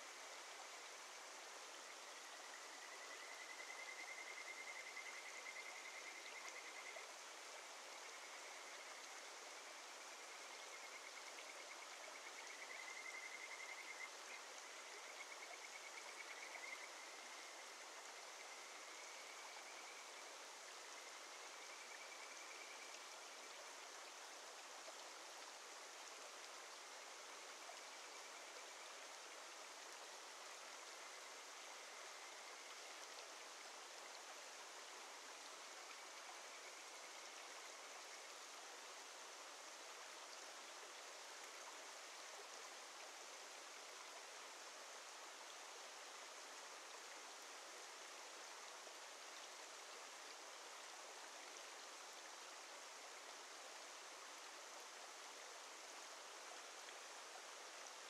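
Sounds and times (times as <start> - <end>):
mountain stream flowing: 0.0 - 58.0.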